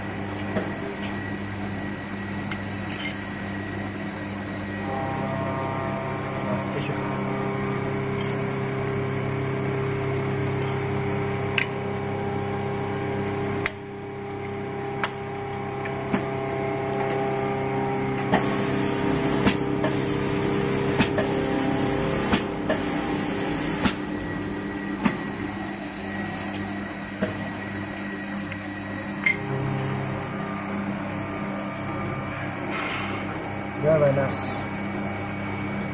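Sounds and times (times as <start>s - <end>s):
machine humming: 0.0s - 35.9s.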